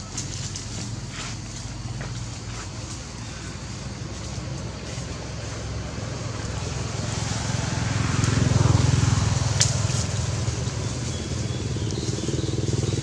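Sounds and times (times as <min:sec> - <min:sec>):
vehicle engine passing by: 0:00.0 - 0:13.0.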